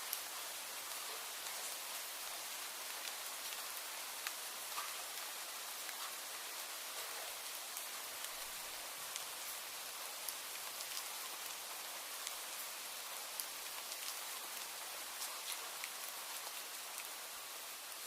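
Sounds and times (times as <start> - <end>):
raindrops ticking on a surface: 0.0 - 18.0
steady rain hiss: 0.0 - 18.0.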